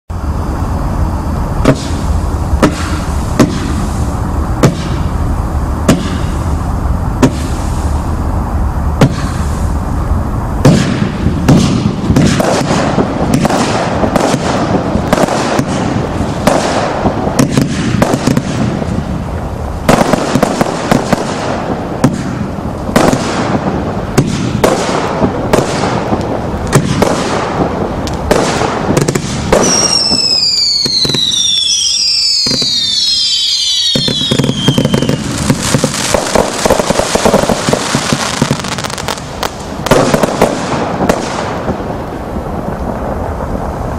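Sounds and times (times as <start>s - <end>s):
firework launches and crackling bursts: 0.1s - 43.9s
firework shots: 0.1s - 43.9s.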